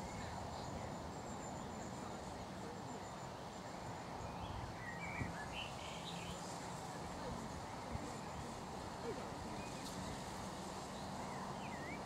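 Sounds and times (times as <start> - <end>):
faint distant bird chirps: 0.0 - 12.0
outdoor background noise: 0.0 - 12.0.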